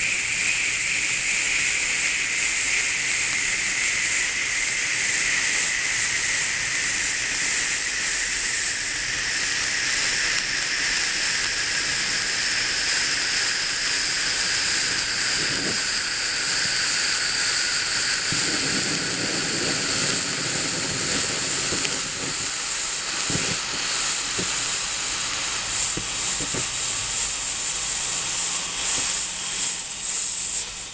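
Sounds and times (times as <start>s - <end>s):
spark fountains hissing: 0.0s - 30.9s.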